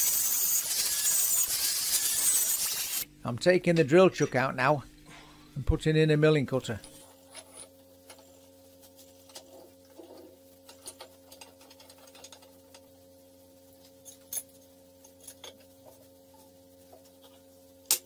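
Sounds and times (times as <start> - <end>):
faint steady hum: 2.9 - 18.0.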